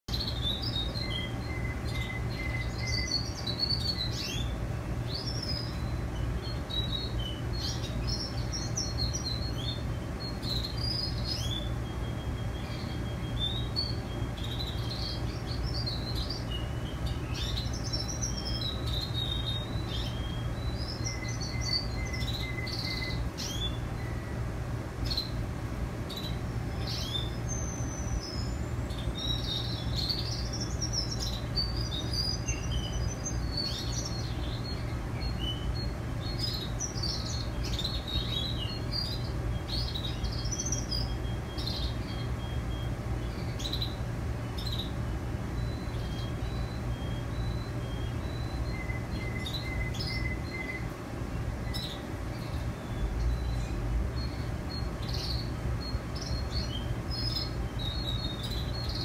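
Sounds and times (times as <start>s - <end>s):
canaries singing: 0.0s - 59.0s
steady low hum: 0.0s - 59.0s.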